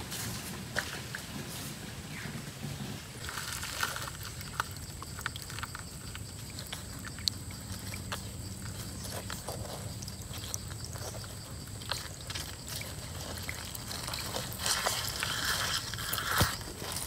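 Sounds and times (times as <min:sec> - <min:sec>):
tortoises clambering clicks: 0:03.2 - 0:17.0
water trickling: 0:03.2 - 0:17.0.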